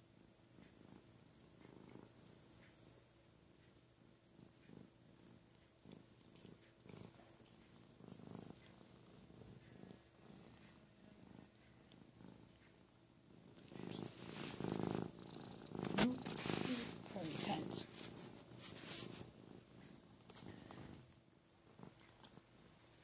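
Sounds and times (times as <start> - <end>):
cats purring: 0.0 - 23.0.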